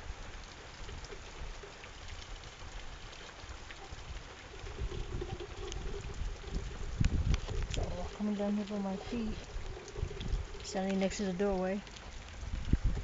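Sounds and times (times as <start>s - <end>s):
heavy rain pouring: 0.0s - 13.0s
raindrops ticking close by: 0.0s - 13.0s.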